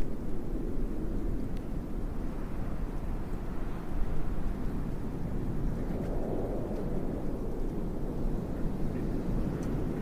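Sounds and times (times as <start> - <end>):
low rush of wind: 0.0 - 10.0.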